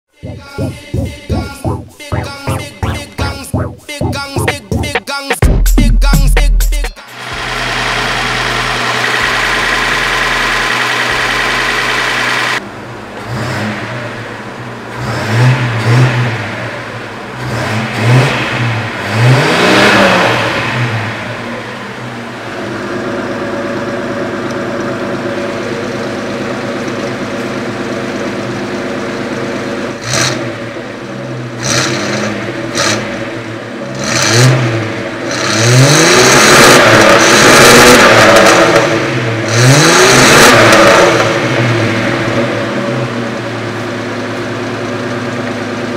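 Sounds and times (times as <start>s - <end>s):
car engine revving and idling: 5.7s - 45.9s.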